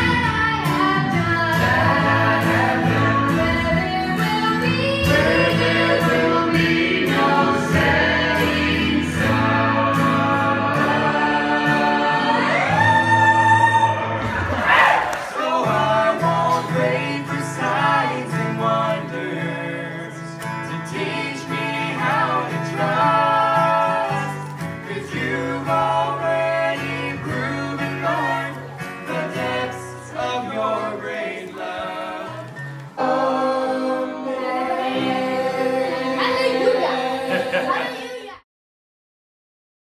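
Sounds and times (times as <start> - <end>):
acoustic guitar: 0.0 - 38.4
voices singing gospel song: 0.0 - 38.4.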